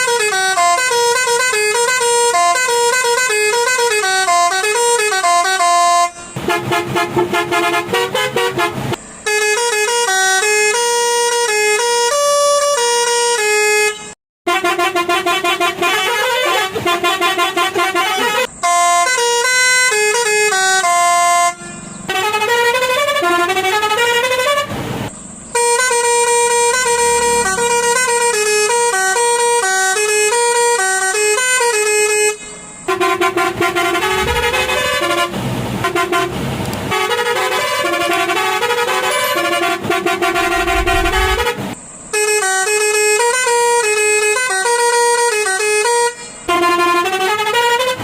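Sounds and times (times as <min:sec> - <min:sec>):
musical air horn playing tunes: 0:00.0 - 0:24.8, 0:25.5 - 0:48.0.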